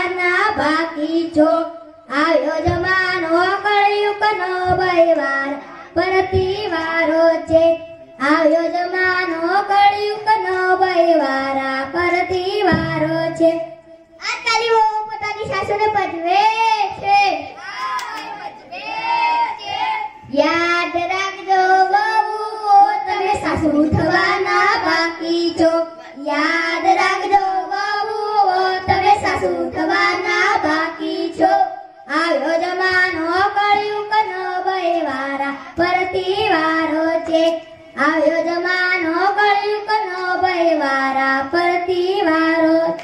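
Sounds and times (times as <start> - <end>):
child singing: 0.0 - 43.0.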